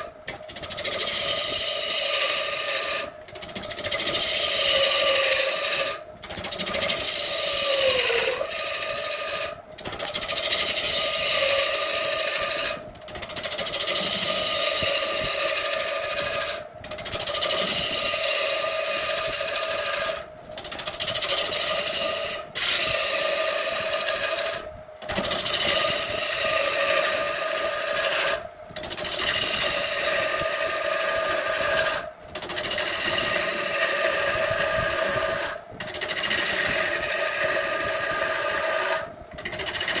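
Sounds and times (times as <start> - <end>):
gouge scraping spinning wood: 0.0 - 40.0
wood lathe humming: 0.0 - 40.0.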